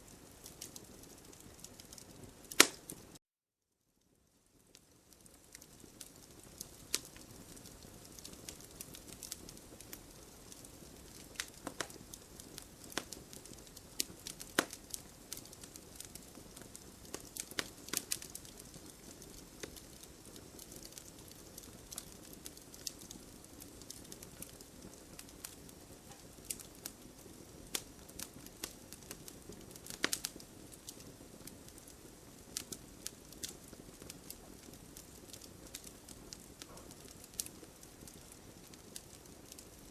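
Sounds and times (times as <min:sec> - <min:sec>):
soft hiss of flames: 0:00.0 - 0:03.2, 0:03.9 - 0:39.9
wood crackling and popping: 0:00.0 - 0:03.2, 0:04.6 - 0:39.9.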